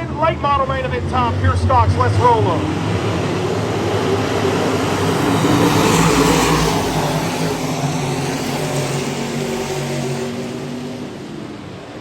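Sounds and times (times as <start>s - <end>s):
race cars passing: 0.0s - 12.0s.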